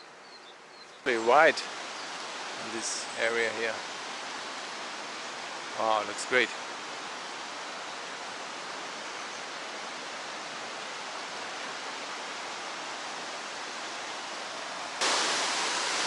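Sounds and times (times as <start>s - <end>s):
river rushing: 1.0s - 16.0s.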